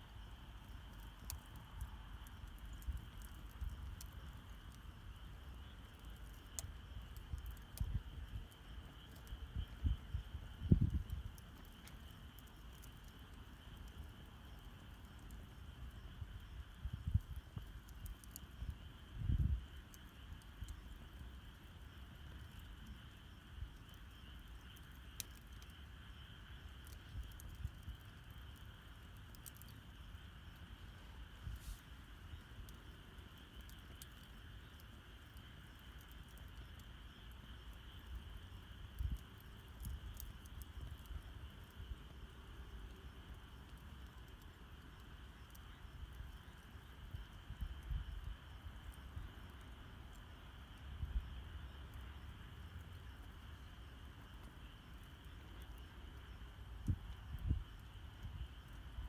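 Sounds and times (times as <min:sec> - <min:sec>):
faint high insect trill: 0:00.0 - 0:59.0
faint high-pitched night chorus: 0:00.0 - 0:59.0
wood fire crackling and popping: 0:00.1 - 0:59.0.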